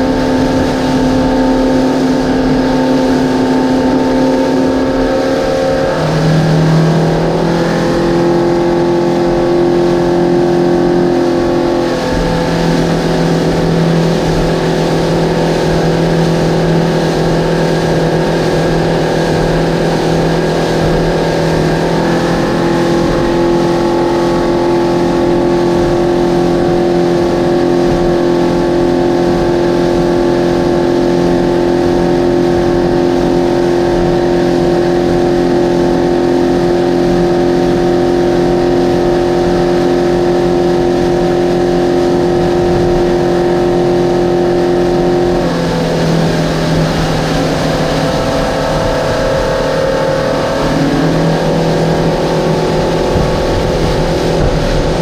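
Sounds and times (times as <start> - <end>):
outboard motors running: 0.0 - 55.0
rushing water from wake: 0.0 - 55.0.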